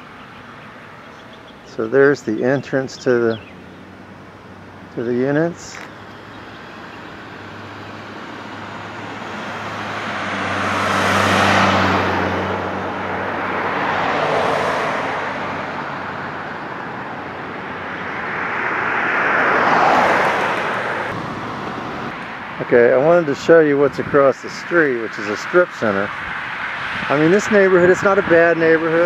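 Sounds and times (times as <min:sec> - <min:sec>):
cars passing on street: 0:00.0 - 0:29.0.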